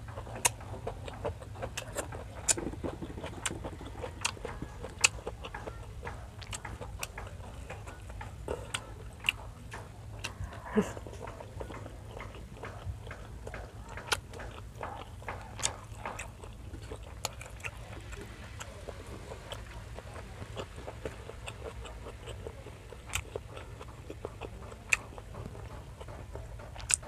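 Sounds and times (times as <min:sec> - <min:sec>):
steady low background hum: 0:00.0 - 0:27.0
wet chewing clicks and smacks: 0:00.0 - 0:27.0.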